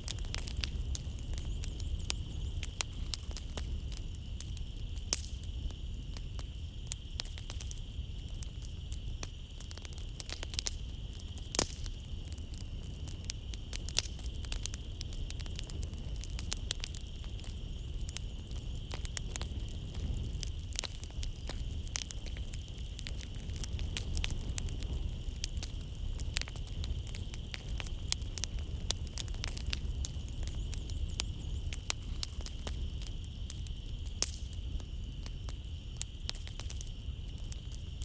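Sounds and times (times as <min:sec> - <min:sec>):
night insects chirring: 0:00.0 - 0:38.0
wood fire crackling and popping: 0:00.0 - 0:38.0.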